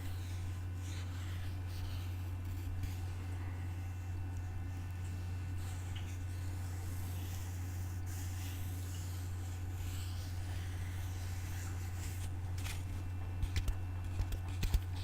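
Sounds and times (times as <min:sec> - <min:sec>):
low electrical hum: 0:00.0 - 0:15.0
soft faint scratching: 0:00.0 - 0:15.0.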